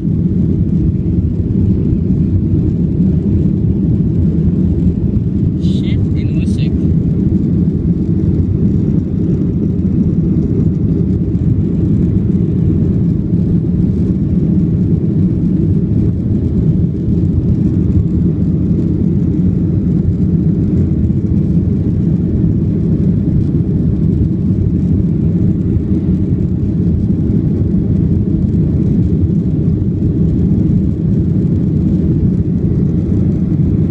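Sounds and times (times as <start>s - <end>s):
airliner engine rumble: 0.0s - 33.9s.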